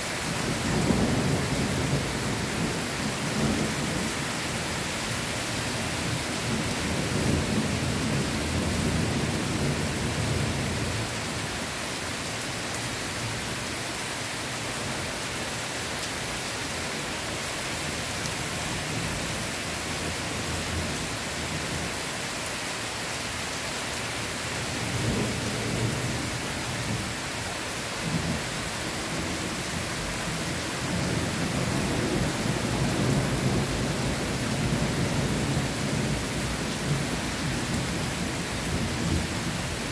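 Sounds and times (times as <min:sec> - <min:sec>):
heavy rain on leaves and grass: 0:00.0 - 0:39.9.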